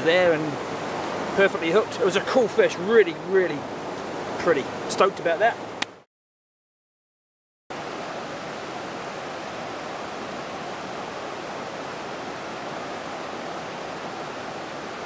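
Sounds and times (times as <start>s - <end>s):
river rushing over rocks: 0.0s - 5.8s, 7.8s - 15.0s.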